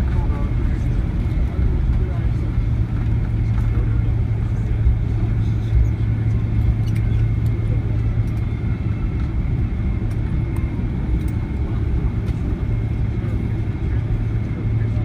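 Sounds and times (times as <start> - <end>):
low rumble of engines: 0.0 - 15.0.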